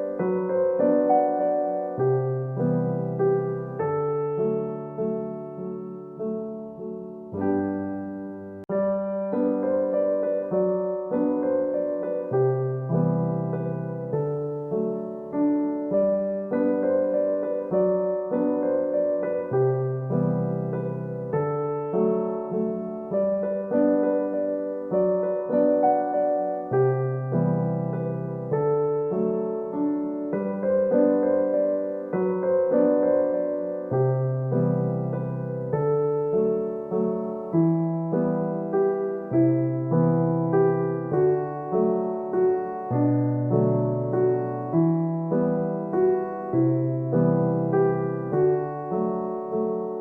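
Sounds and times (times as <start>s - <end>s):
slow gentle piano music: 0.0s - 50.0s.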